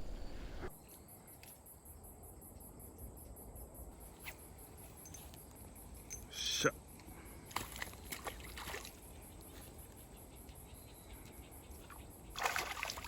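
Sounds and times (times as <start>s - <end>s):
low steady outdoor hush: 0.0s - 13.0s.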